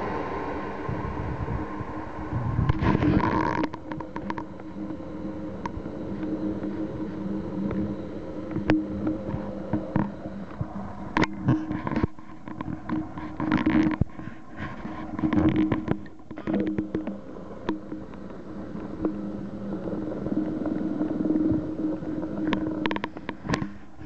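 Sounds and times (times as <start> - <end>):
train engine drone: 0.0 - 24.0.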